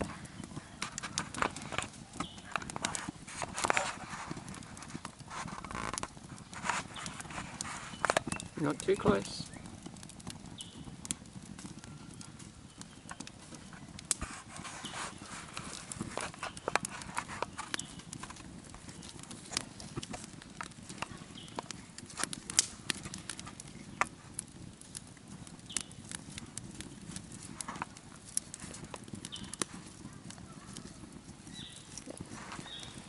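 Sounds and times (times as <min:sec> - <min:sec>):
campfire crackling: 0:00.0 - 0:33.0.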